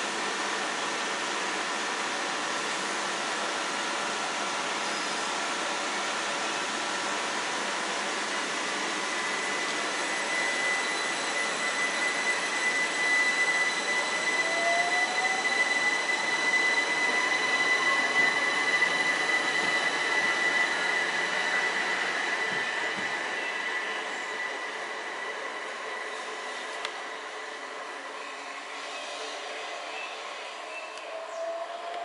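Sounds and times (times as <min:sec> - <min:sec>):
electric train hum and hiss: 0:00.0 - 0:32.0
traction motor whine rising: 0:00.0 - 0:32.0.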